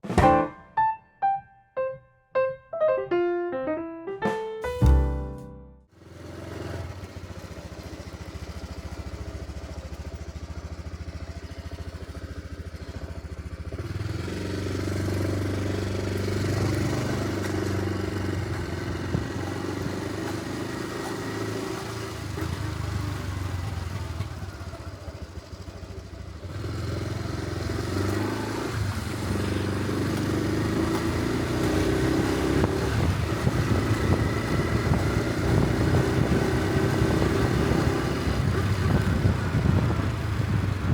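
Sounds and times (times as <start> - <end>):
motorcycle engine running: 6.0 - 40.9.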